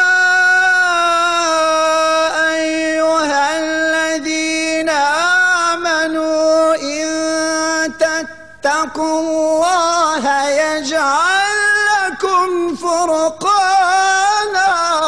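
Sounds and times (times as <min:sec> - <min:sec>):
man reciting melodic chant: 0:00.0 - 0:15.0.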